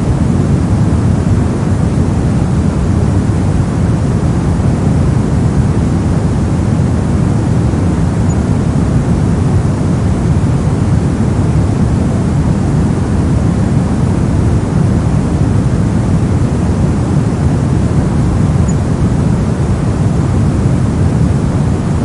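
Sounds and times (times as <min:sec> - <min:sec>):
deep white noise hiss: 0:00.0 - 0:22.0.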